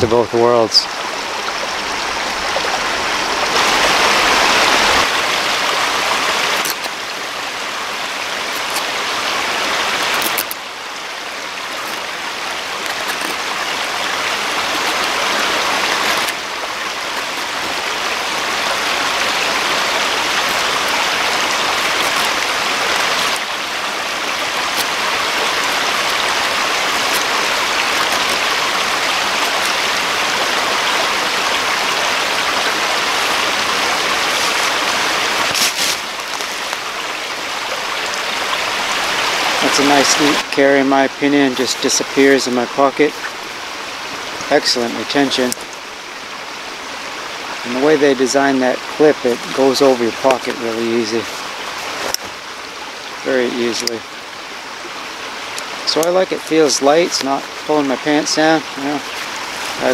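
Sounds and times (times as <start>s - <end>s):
rushing running water: 0.0s - 59.9s.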